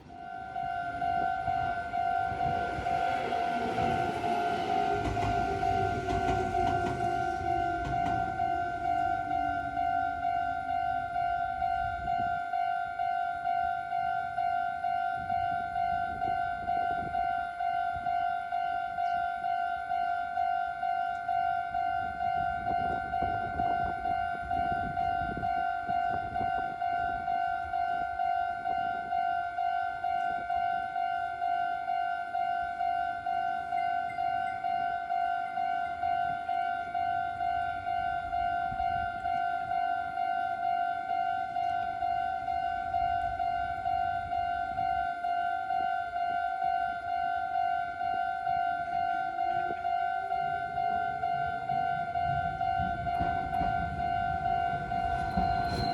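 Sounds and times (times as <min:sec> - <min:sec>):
level crossing warning bell: 0:00.0 - 0:55.9.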